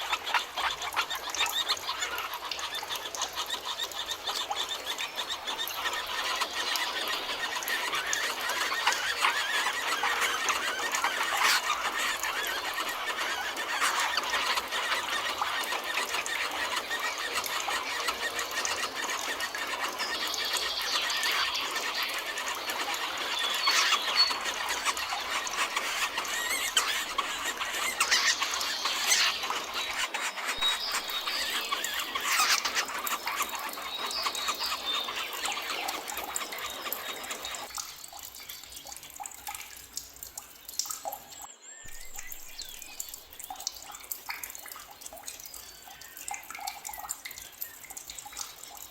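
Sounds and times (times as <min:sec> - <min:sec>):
forest birds chirping: 0:00.0 - 0:48.9.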